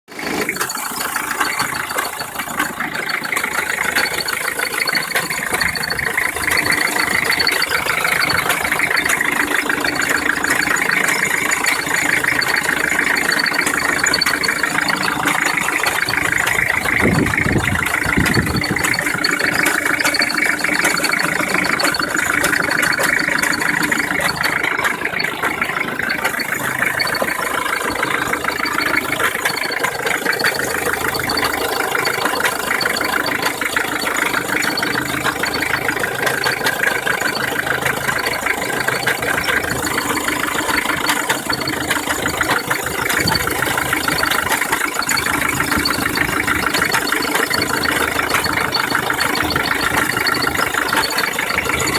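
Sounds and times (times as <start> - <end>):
diesel engine idling: 0.1 - 51.9
running noise: 0.4 - 51.9.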